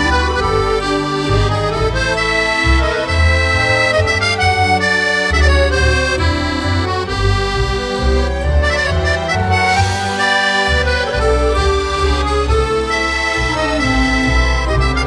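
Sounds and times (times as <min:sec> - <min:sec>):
accordion music: 0:00.0 - 0:15.0.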